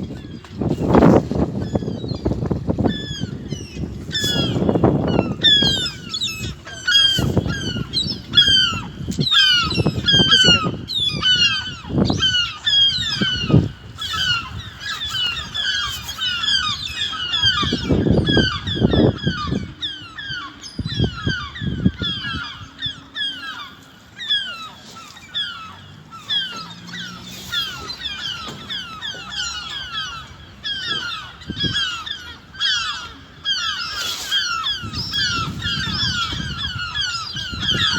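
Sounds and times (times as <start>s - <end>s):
flock of birds calling: 0.0s - 37.9s.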